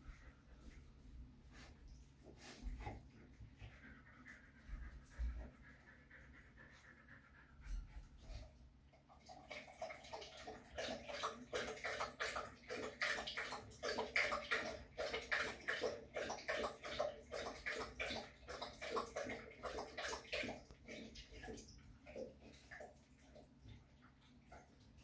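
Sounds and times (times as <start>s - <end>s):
dog lapping water from metal bowl: 2.9s - 25.0s.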